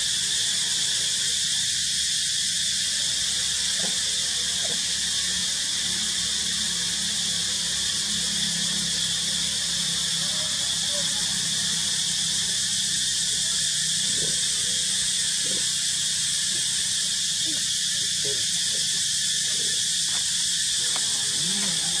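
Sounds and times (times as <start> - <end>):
steady high-pitched hiss: 0.0 - 22.0.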